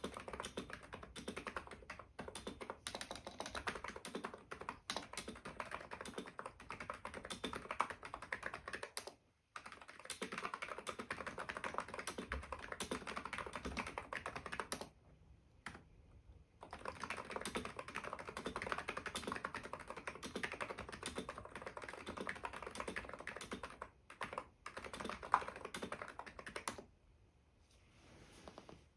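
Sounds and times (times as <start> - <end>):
keyboard typing: 0.0 - 15.0, 16.6 - 26.9.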